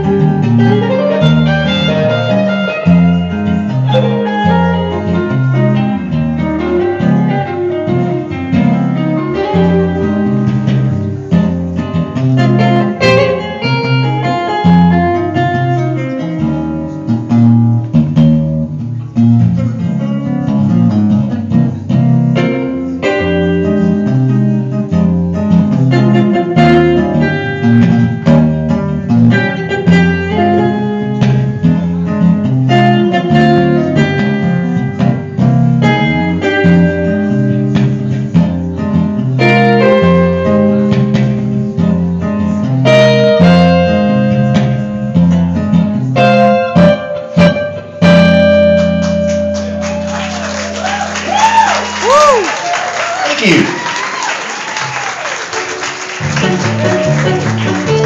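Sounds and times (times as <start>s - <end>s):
tapped string instrument bass and melody: 0.0s - 52.4s, 55.6s - 58.0s.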